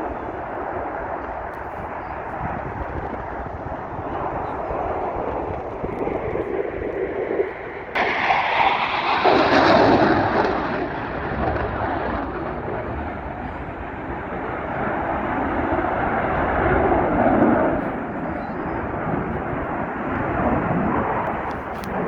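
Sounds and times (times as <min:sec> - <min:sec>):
airplane passing overhead: 0:00.0 - 0:22.0.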